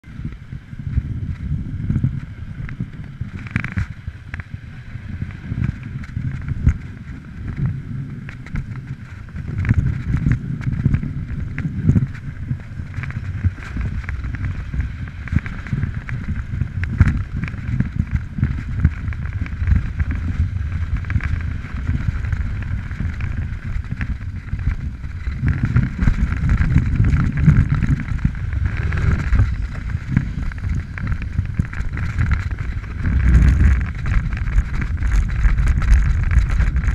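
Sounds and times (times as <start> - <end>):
wind rumble on microphone: 0.0 - 36.9
snowboard scraping over snow: 0.1 - 36.9.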